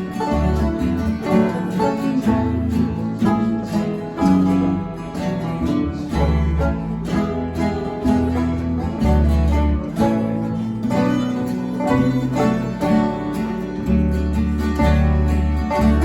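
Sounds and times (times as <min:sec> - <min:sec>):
acoustic guitar folk music: 0:00.0 - 0:16.0
bass line: 0:00.0 - 0:16.0.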